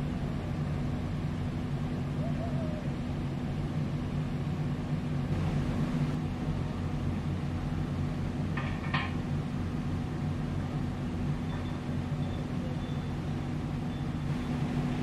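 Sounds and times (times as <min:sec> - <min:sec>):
machinery engine idling: 0:00.0 - 0:15.0.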